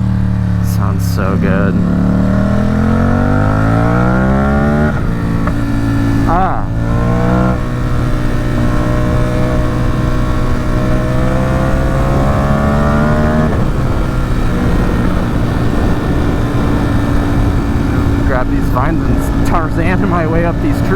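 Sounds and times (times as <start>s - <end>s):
motorcycle engine accelerating: 0.0s - 20.9s.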